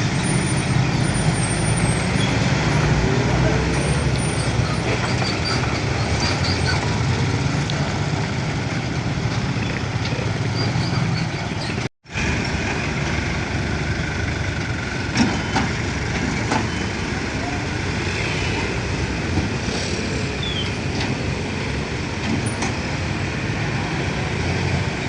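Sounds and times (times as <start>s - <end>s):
road traffic: 0.0s - 25.0s
truck engine running: 0.0s - 25.0s.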